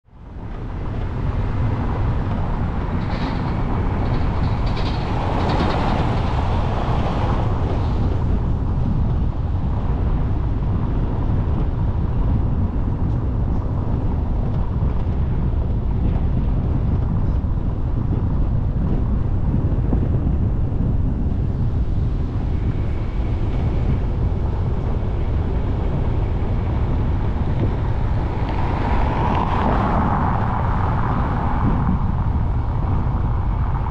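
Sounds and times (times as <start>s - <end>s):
road and tyre noise: 0.0s - 33.9s
wind on microphone: 0.0s - 33.9s.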